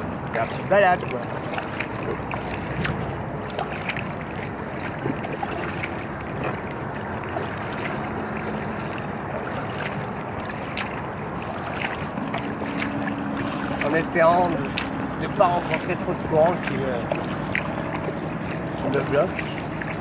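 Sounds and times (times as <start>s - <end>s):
highway traffic hum: 0.0s - 20.0s
water lapping and splashing: 0.0s - 20.0s.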